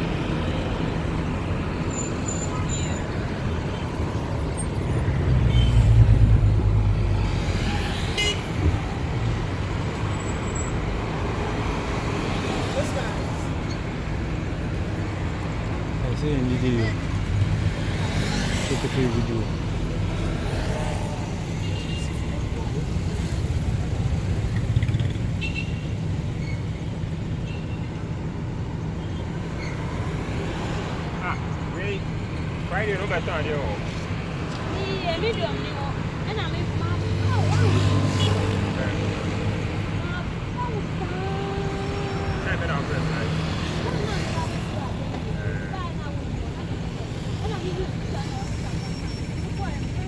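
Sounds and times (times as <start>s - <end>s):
steady traffic noise: 0.0s - 50.0s.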